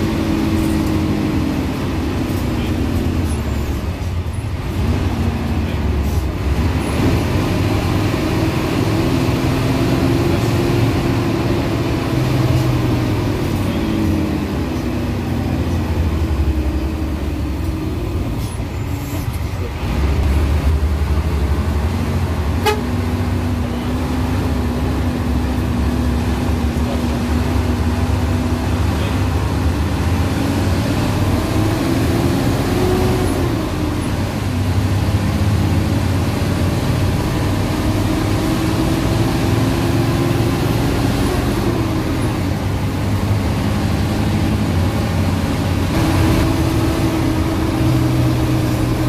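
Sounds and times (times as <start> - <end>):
bus engine: 0.0 - 49.0
road rumble: 0.0 - 49.0.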